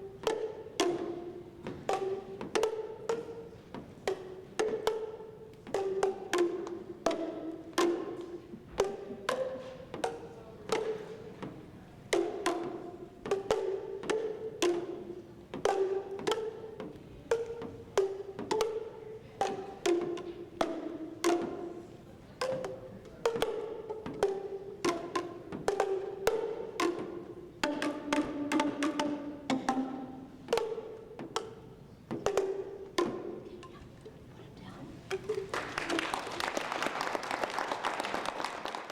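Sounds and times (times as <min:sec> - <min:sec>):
tuned percussion strikes: 0:00.0 - 0:36.5.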